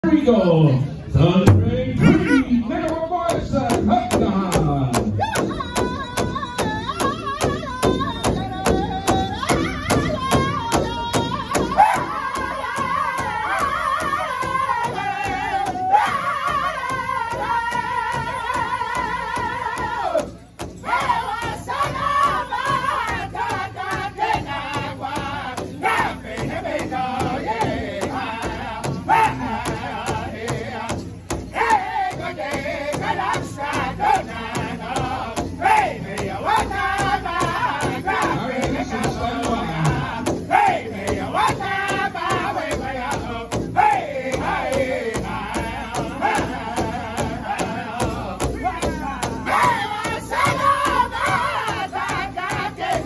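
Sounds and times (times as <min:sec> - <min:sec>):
men singing in high voices: 0:00.0 - 0:53.0
large hide drum beating: 0:01.2 - 0:53.0.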